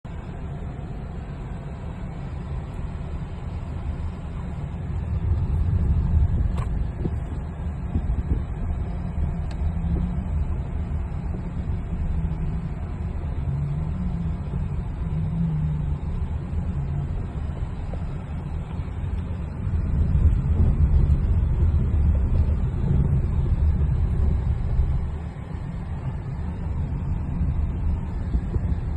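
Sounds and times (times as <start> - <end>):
vehicle low rumble: 0.0 - 28.9.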